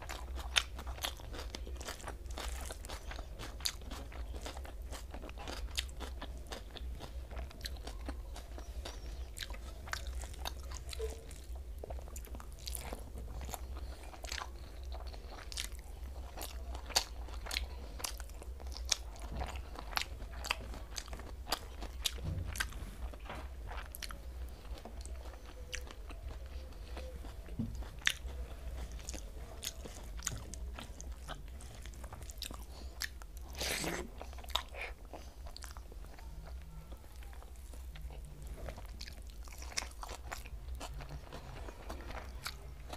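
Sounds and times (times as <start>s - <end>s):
low steady hum: 0.0s - 42.9s
person chewing food: 0.0s - 42.9s.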